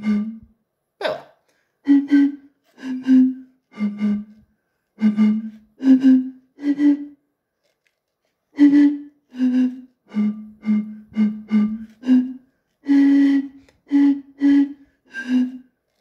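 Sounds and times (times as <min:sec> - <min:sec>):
bottles blown like flutes: 0:00.0 - 0:16.0.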